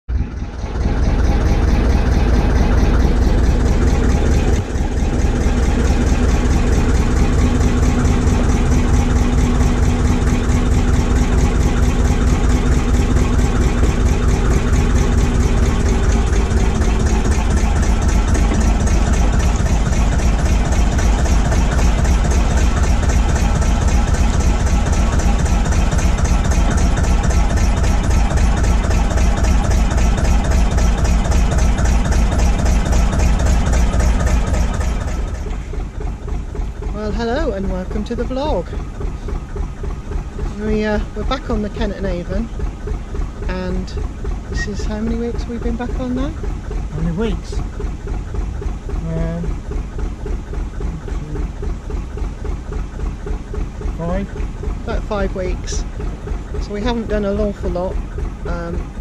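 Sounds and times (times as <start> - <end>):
diesel engine chugging: 0.0 - 59.0.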